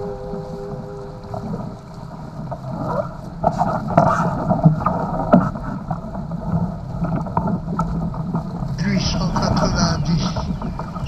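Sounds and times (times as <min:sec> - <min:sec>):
water rushing along hulls: 0:00.0 - 0:11.0
wind buffeting microphone: 0:00.0 - 0:11.0.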